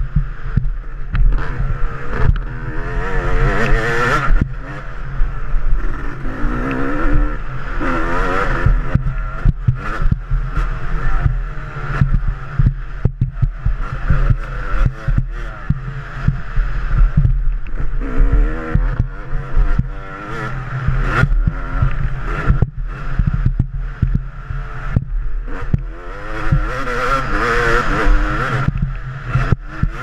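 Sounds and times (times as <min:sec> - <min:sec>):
dirt bike engine revving: 0:00.0 - 0:30.0
wind rumble on microphone: 0:00.0 - 0:30.0.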